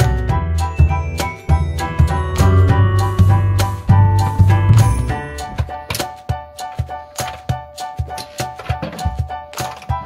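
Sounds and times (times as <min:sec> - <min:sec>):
background music with quick beat: 0:00.0 - 0:10.0.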